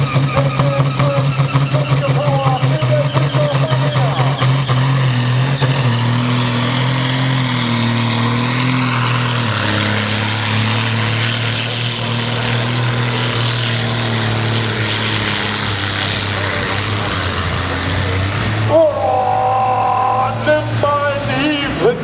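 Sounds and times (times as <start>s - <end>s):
tractor engine under full load: 0.0s - 22.0s.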